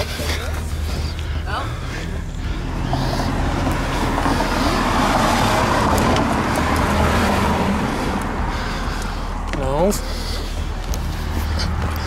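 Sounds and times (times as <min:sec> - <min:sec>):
vehicle road noise rushing by: 0:00.0 - 0:12.0.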